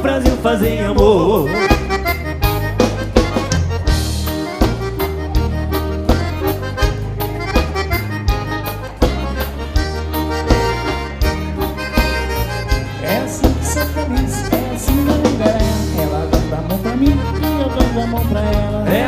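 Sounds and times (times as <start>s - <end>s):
accordion dance music: 0.0s - 19.0s.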